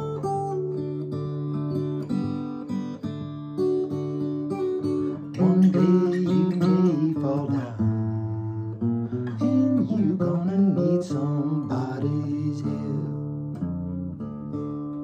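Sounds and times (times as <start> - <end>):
acoustic guitar blues playing: 0.0 - 15.0.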